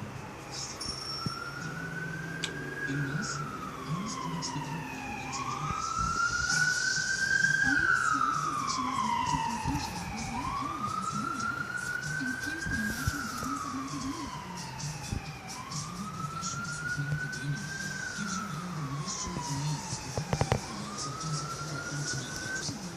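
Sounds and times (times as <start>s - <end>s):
siren wailing: 0.0s - 22.9s.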